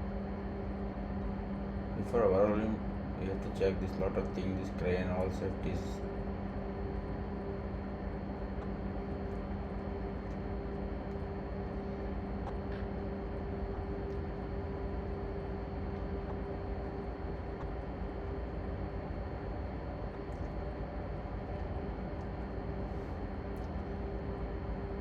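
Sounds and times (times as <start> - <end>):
engine room machinery drone: 0.0 - 25.0.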